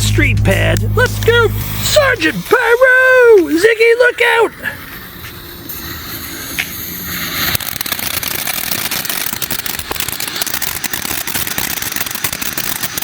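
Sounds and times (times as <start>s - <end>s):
firework fountain crackling: 0.0s - 13.0s
firework fountain hissing: 0.0s - 13.0s.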